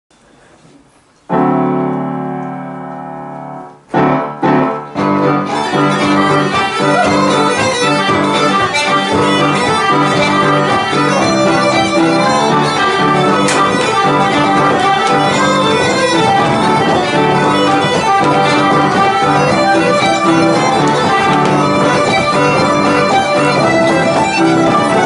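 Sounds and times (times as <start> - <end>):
folk band playing a reel: 1.3 - 25.0.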